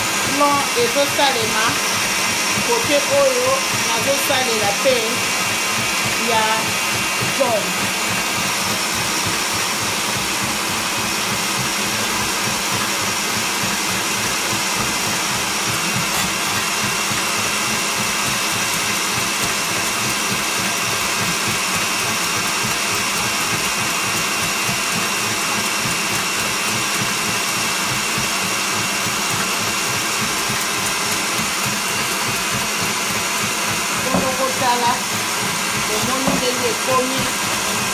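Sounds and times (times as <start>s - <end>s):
electric hand mixer whining: 0.0s - 37.9s.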